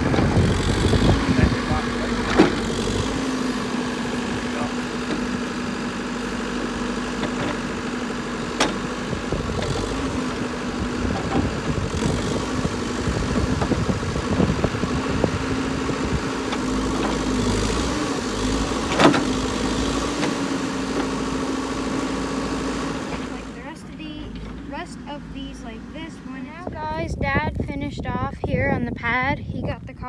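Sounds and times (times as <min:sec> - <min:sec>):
backhoe engine running: 0:00.0 - 0:30.0.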